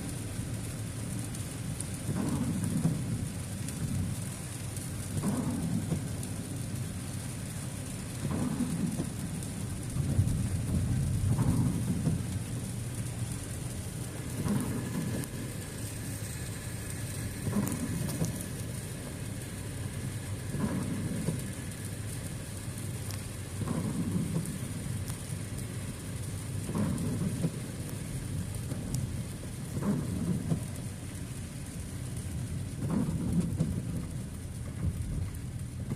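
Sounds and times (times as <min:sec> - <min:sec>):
low road rumble: 0:00.0 - 0:35.9
rain pattering on a car: 0:00.0 - 0:35.9
windshield wipers swishing: 0:01.7 - 0:35.9.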